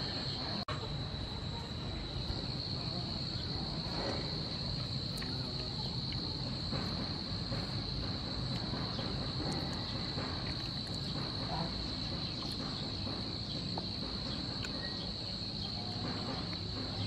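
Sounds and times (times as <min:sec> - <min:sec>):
insects chirring: 0:00.0 - 0:17.0
low outdoor rumble: 0:00.0 - 0:17.0.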